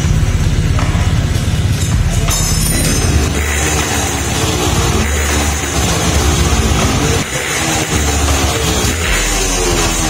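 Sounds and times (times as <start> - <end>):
dance music with deep bass: 0.0 - 10.0
scooter engine running: 0.0 - 10.0.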